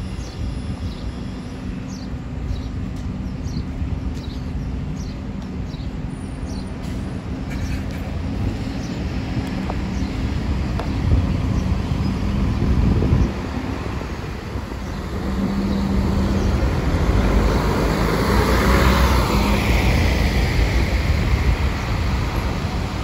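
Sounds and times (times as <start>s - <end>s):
diesel bus engine rumbling: 0.0s - 23.0s.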